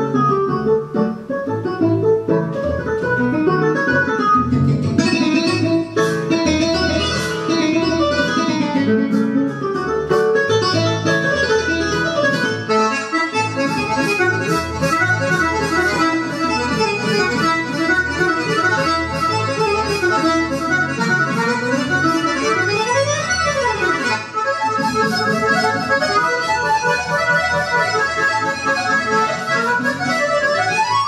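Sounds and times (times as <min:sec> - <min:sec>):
accordion melody: 0:00.0 - 0:31.0.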